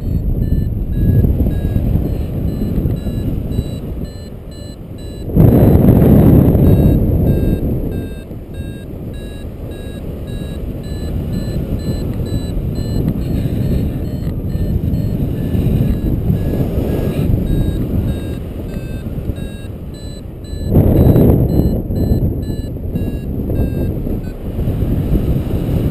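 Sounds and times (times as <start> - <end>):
variometer short high beeps: 0.0 - 24.4
wind rushing over microphone: 0.0 - 25.9.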